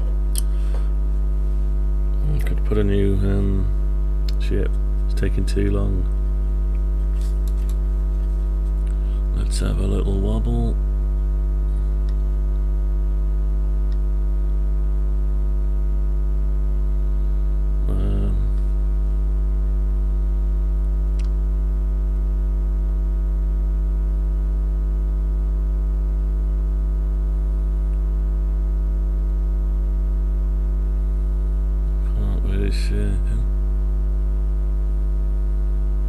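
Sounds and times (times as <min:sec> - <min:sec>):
mains hum: 0:00.0 - 0:36.0.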